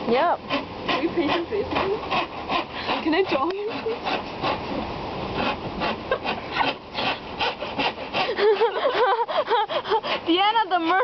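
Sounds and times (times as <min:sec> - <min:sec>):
hand saw cutting wood: 0:00.1 - 0:11.0.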